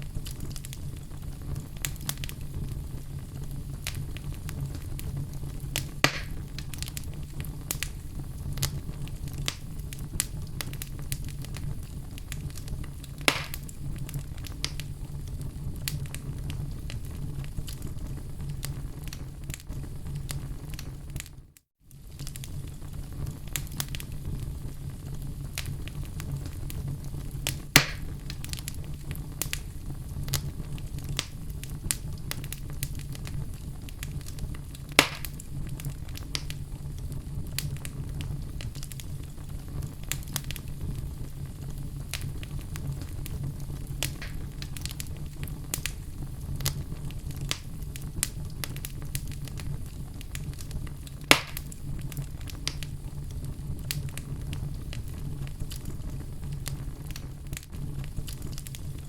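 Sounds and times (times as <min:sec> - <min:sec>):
fire crackling: 0:00.0 - 0:59.0
fire pops: 0:00.0 - 0:59.0.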